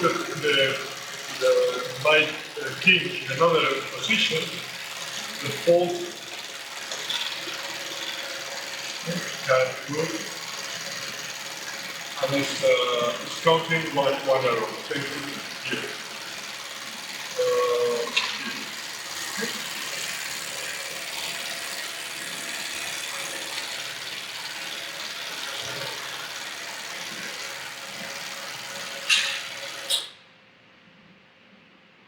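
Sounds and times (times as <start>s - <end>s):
machinery whirring: 0.0s - 30.2s
sharp mechanical clicks: 0.0s - 30.2s.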